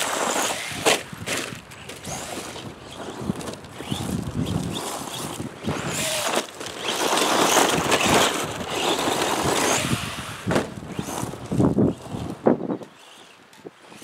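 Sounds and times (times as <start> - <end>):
tyres scrabbling on gravel: 0.0 - 12.5
electric motor whining: 0.0 - 14.0.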